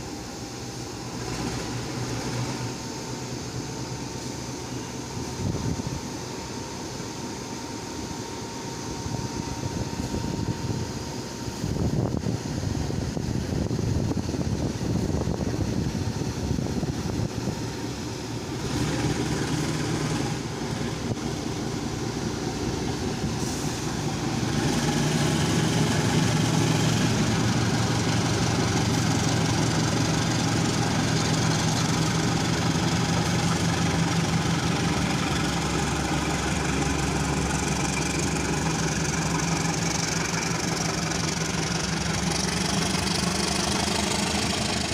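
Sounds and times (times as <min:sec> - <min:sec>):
diesel locomotive idling: 0:00.0 - 0:44.9.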